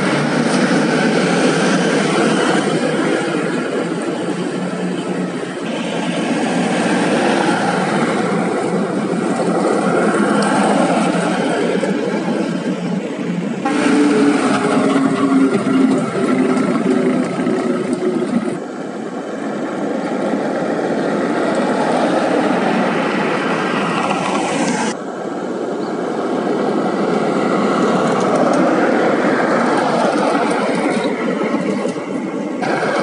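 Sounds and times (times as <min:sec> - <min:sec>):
diesel truck engine: 0:00.0 - 0:25.2, 0:26.2 - 0:33.0
passing traffic road noise: 0:00.0 - 0:33.0.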